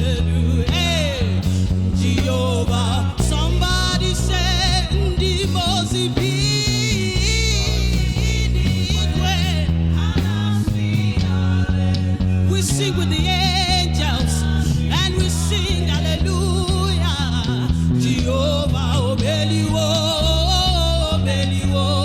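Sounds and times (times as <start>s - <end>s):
gospel band playing: 0.0s - 22.0s
person singing with vibrato: 0.0s - 22.0s.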